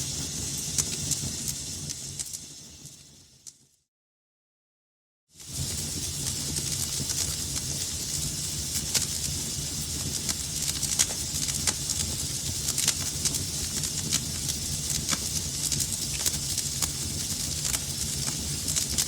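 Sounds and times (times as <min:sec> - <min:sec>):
sharp fire pops: 0:00.0 - 0:03.6, 0:05.4 - 0:19.0
wood fire crackling: 0:00.0 - 0:03.7, 0:05.4 - 0:19.0
low fire rumble and hiss: 0:00.0 - 0:03.8, 0:05.3 - 0:19.0.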